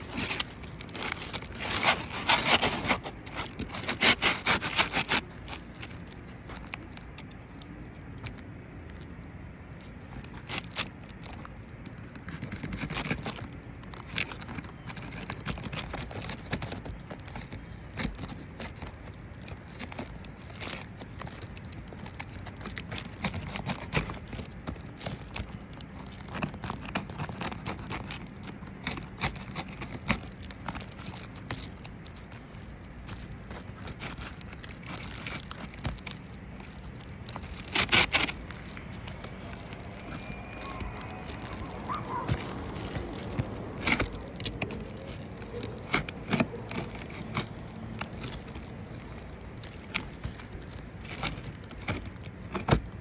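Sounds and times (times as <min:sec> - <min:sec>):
scraping and crackling of shingles: 0:00.0 - 0:53.0.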